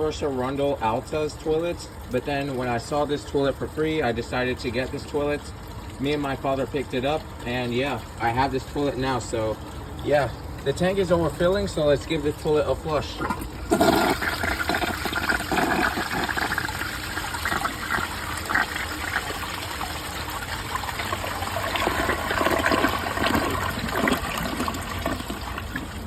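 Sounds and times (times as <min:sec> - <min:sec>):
toilet flushing: 0:00.0 - 0:26.0.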